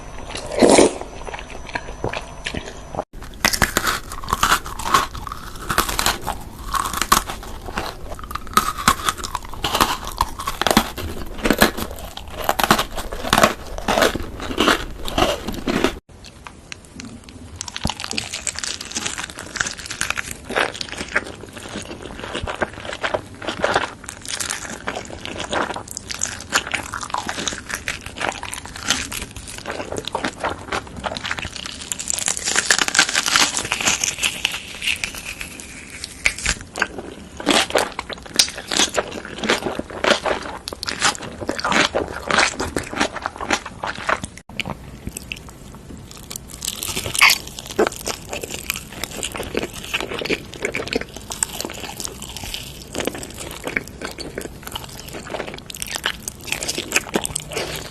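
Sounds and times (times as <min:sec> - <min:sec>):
crunchy food being chewed: 0:00.0 - 0:57.9.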